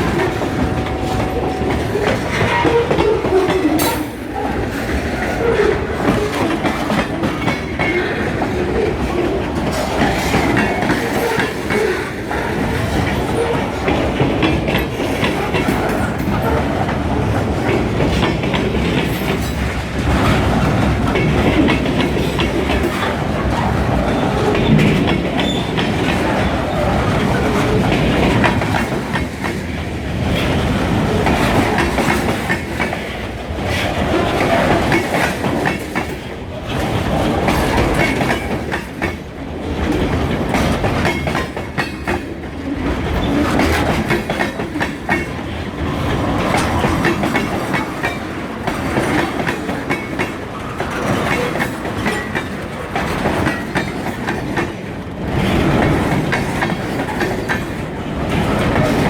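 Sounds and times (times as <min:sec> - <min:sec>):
freight train cars rolling past: 0:00.0 - 0:59.0
wheels clattering over rail joints: 0:00.0 - 0:59.0.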